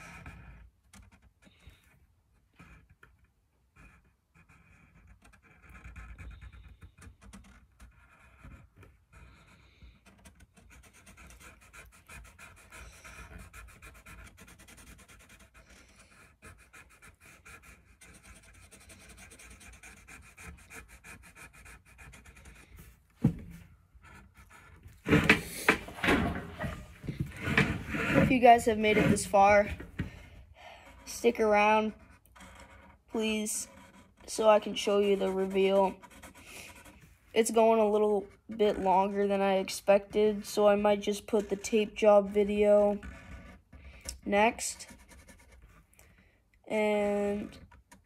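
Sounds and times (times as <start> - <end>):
marker squeaking on a stick: 0.0 - 22.9, 24.0 - 29.9, 30.8 - 39.3, 41.2 - 45.6.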